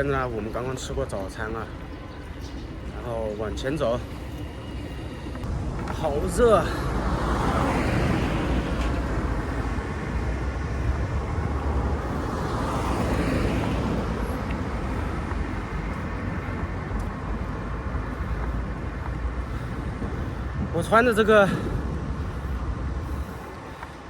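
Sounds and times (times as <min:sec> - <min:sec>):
steady low traffic rumble: 0:00.0 - 0:24.0
vehicles passing: 0:00.0 - 0:24.0.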